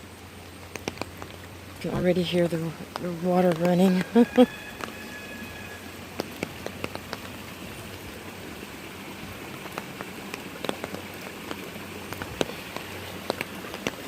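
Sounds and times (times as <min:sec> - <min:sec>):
runoff water rushing: 0:00.0 - 0:14.0.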